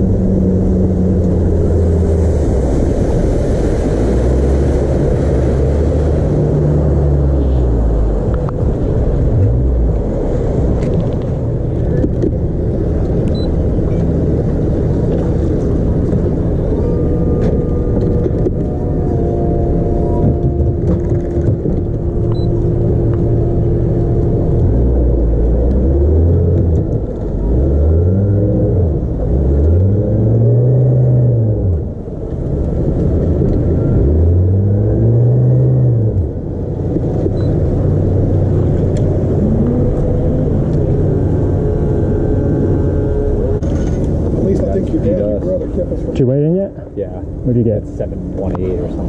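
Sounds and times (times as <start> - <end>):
outboard motor idling and revving: 0.0 - 46.2.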